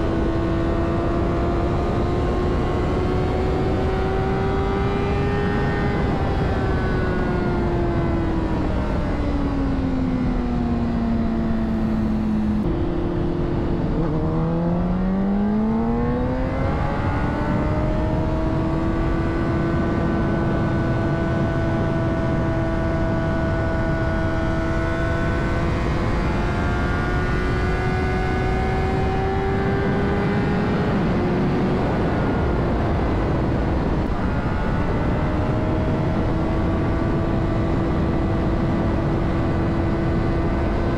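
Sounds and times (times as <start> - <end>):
motorcycle engine: 0.0 - 40.9
wind rush: 0.0 - 40.9.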